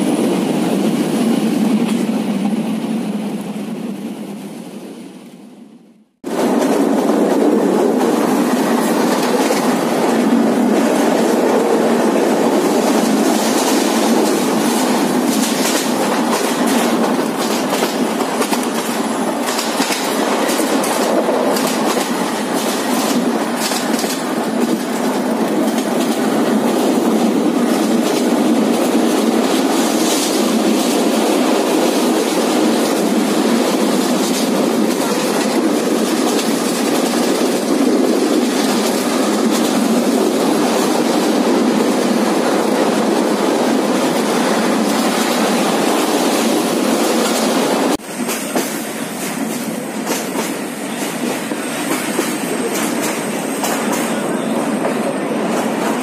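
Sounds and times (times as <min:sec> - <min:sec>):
rail clicks: 0:00.0 - 0:05.5, 0:06.2 - 0:56.0
train wheels rumbling on rails: 0:00.0 - 0:56.0.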